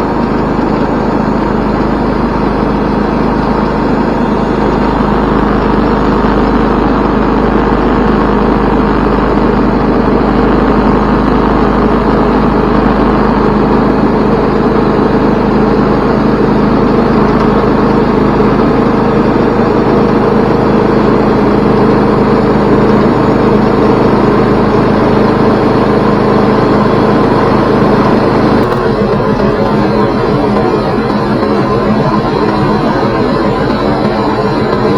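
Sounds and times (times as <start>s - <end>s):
sawmill engine running steadily: 0.0s - 34.9s.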